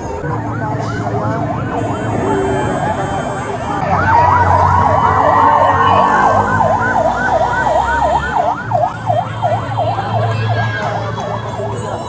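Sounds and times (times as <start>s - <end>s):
police siren yelping: 0.0s - 10.9s
steady siren tone: 0.0s - 11.3s.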